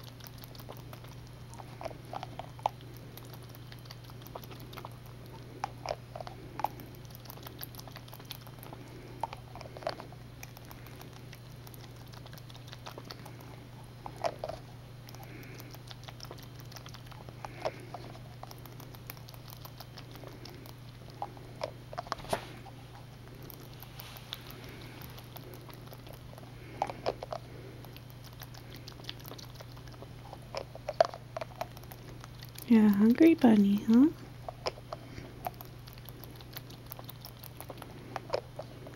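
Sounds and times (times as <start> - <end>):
rabbit suckling from bottle: 0.0 - 38.9.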